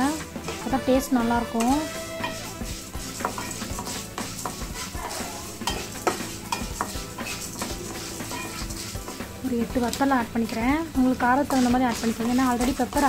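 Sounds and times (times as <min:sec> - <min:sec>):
wooden spatula scraping lentils in pan: 0:00.0 - 0:13.0.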